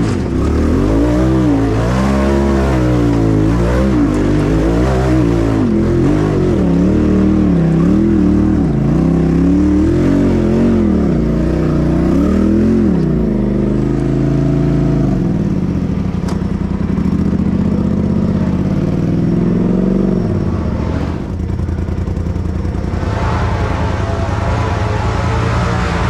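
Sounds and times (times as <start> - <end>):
utility vehicle engine revving: 0.0 - 26.0.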